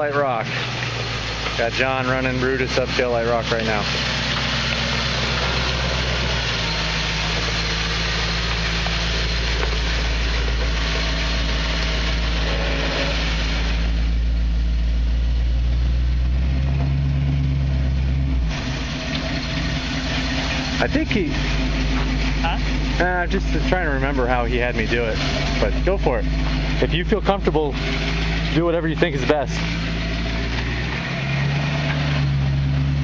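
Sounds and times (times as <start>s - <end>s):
off-road vehicle engine: 0.0s - 33.0s.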